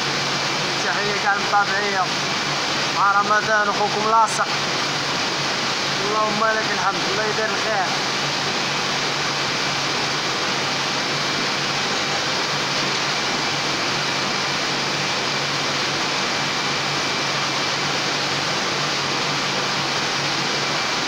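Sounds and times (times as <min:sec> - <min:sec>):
printing press hiss: 0:00.0 - 0:21.0.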